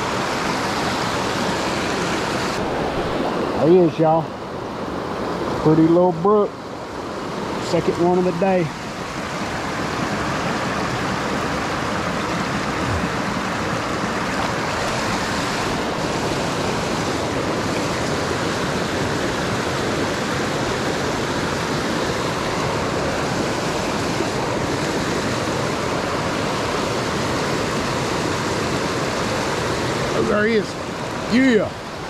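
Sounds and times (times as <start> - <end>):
creek rushing over rocks: 0.0 - 32.0.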